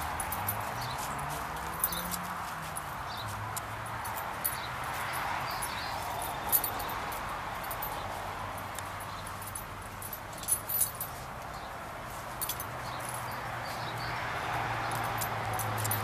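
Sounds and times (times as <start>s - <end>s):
collar jingling: 0.0s - 16.0s
steady background noise: 0.0s - 16.0s.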